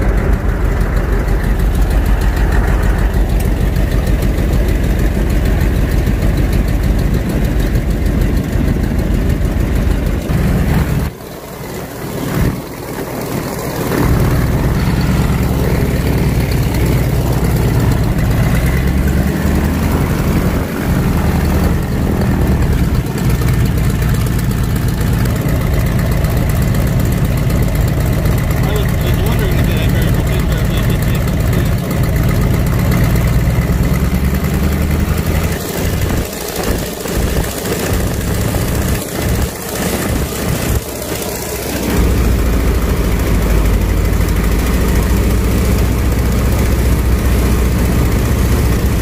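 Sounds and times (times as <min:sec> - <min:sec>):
radial engine droning: 0:00.0 - 0:49.0.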